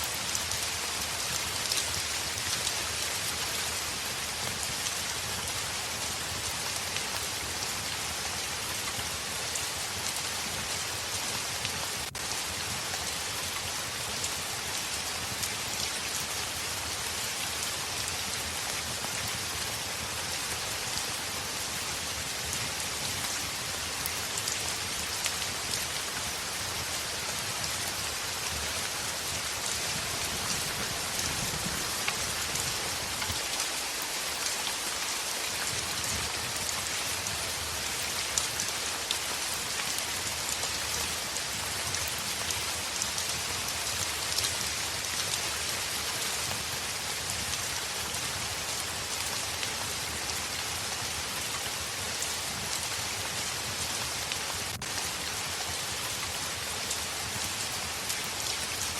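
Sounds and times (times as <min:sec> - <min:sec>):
heavy rain on a window: 0:00.0 - 0:58.9.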